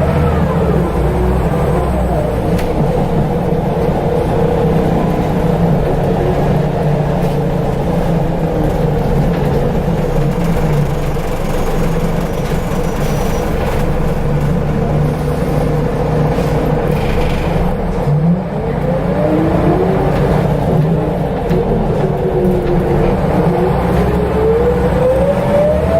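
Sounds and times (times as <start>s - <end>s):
bus engine drone: 0.0s - 25.9s.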